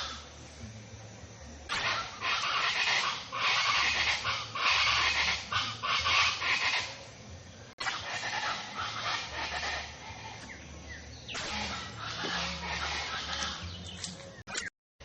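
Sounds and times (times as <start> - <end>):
birds chirping: 0.0 - 14.7
outdoor background noise: 0.0 - 14.7.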